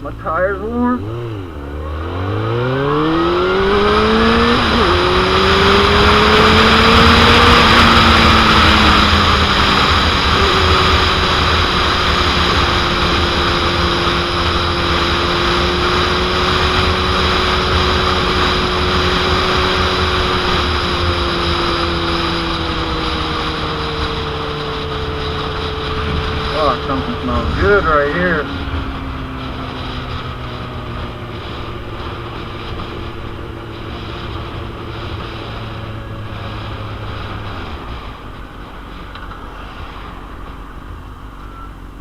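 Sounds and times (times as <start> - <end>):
motorcycle engine accelerating: 0.0 - 42.0
wind noise on microphone: 1.0 - 42.0.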